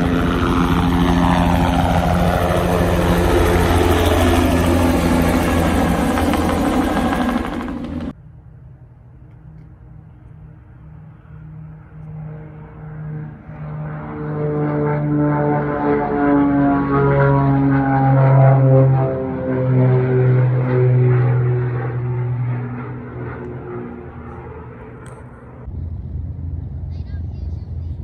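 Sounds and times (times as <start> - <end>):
helicopter flying past: 0.0 - 28.0
propeller airplane drone: 0.0 - 28.0.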